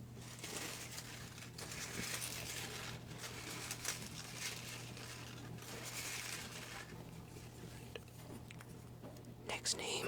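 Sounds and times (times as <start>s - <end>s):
paper rustling and crinkling: 0.0s - 8.8s.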